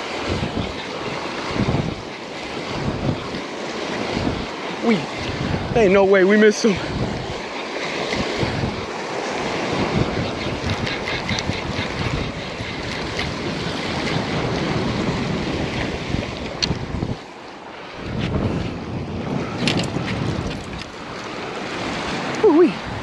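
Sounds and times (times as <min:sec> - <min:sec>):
waves washing against rocks: 0:00.0 - 0:23.0
wind buffeting microphone: 0:00.0 - 0:23.0.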